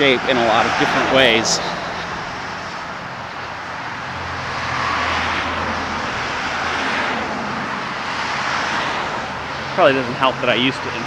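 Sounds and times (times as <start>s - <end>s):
car passing on street: 0.0s - 11.0s.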